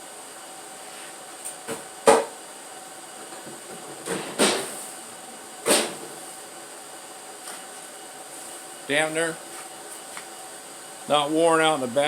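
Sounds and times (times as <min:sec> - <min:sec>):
steady fan hiss: 0:00.0 - 0:12.0.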